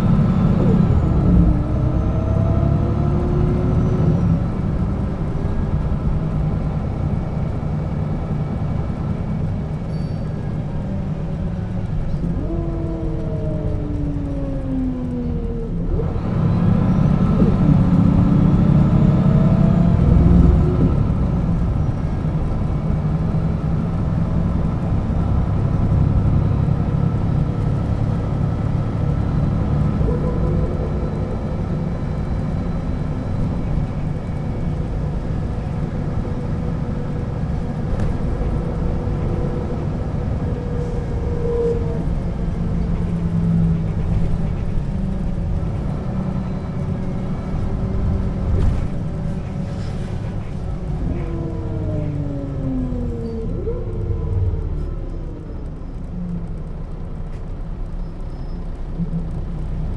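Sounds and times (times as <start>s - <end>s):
bus engine pulling: 0.0s - 59.9s
drivetrain whine: 0.0s - 59.9s.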